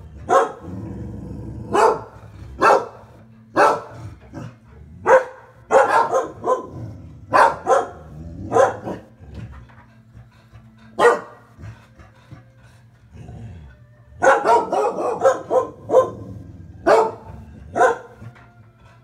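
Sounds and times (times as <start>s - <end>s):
dogs barking: 0.0s - 1.0s, 1.6s - 12.5s, 14.2s - 19.0s.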